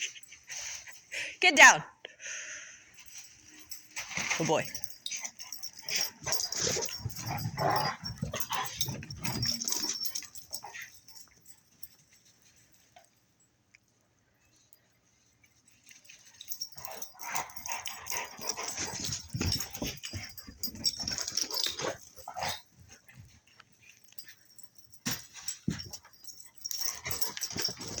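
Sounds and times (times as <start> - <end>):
rustling and scuffling: 3.0 - 13.2, 14.6 - 28.0.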